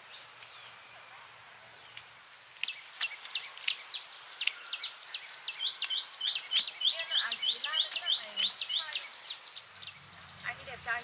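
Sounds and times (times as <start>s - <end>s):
bird chirping: 0.0s - 11.0s
faint outdoor hiss: 0.0s - 11.0s.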